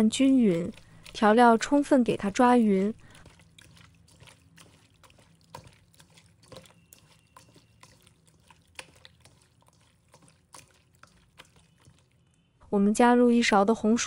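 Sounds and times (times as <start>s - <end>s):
hands squelching raw meat: 0.0s - 12.5s.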